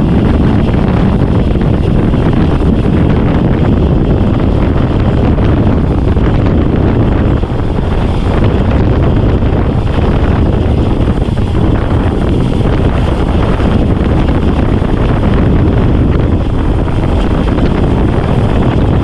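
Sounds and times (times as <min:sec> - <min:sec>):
wind rumble buffeting microphone: 0:00.0 - 0:19.0.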